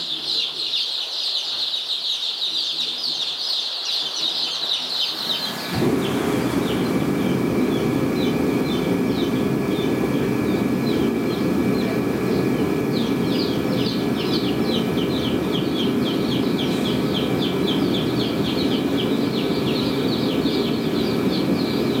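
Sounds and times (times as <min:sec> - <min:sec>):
chicks peeping: 0:00.0 - 0:22.0
fan running: 0:00.0 - 0:22.0.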